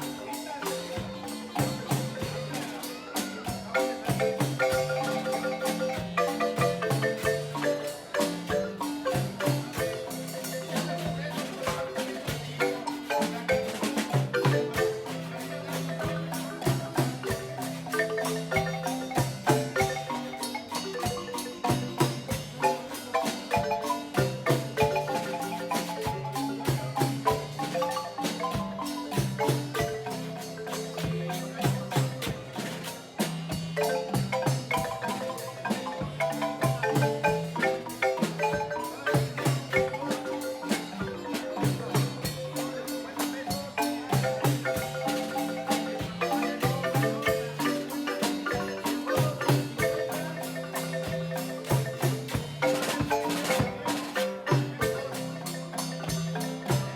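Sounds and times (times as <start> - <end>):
marimba playing a fast tune: 0.0 - 56.9.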